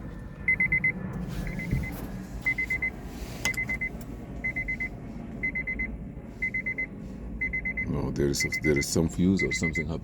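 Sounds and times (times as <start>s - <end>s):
low steady hum: 0.0s - 10.0s
high-pitched electronic beeps: 0.5s - 2.9s, 3.5s - 10.0s.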